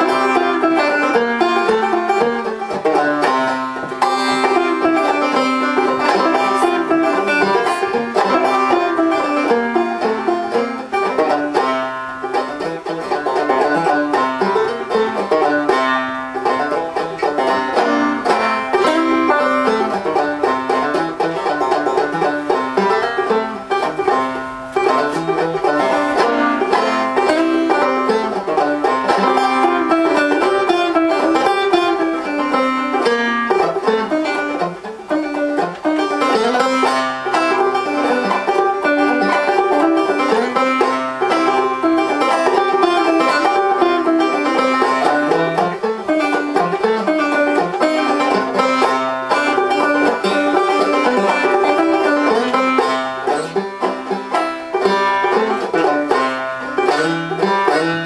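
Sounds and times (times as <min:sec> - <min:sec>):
banjo playing: 0:00.0 - 0:58.0.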